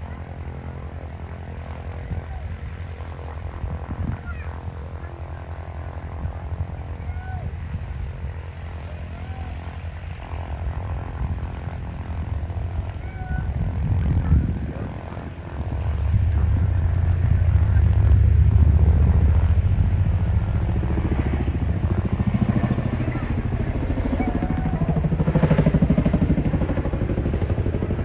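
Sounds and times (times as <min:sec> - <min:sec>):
propeller aircraft engines droning: 0:00.0 - 0:28.0.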